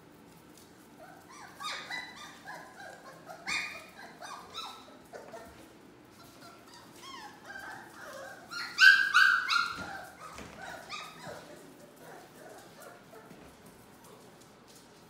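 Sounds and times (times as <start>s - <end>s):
puppies yipping: 1.0s - 14.3s.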